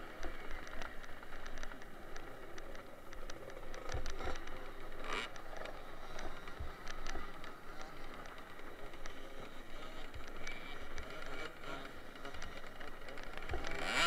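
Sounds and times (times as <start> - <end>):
faint motorbike engines: 0.0 - 14.0.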